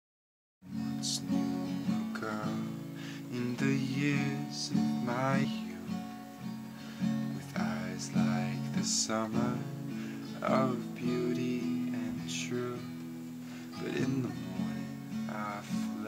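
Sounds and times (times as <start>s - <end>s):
acoustic guitar strumming: 0.6s - 16.0s.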